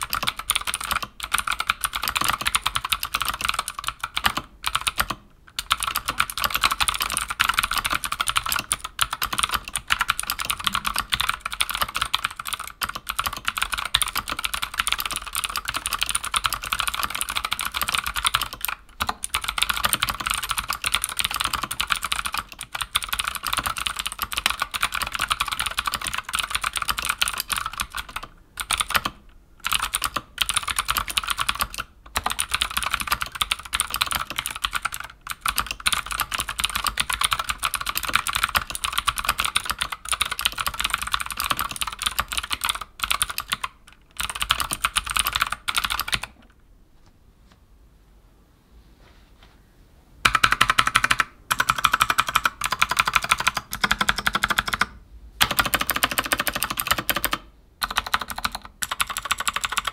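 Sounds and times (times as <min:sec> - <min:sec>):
fast typing on mechanical keyboard: 0:00.0 - 0:46.4, 0:50.2 - 0:59.9.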